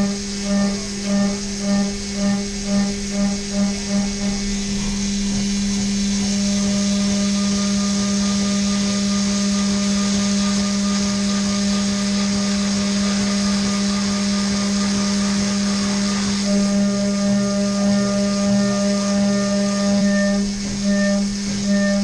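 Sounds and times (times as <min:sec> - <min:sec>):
cnc mill cutting hum: 0:00.0 - 0:22.0.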